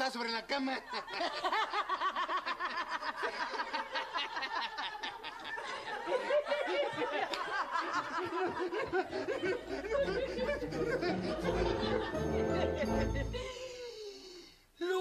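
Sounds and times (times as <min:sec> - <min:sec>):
audience laughing: 0:00.8 - 0:13.6.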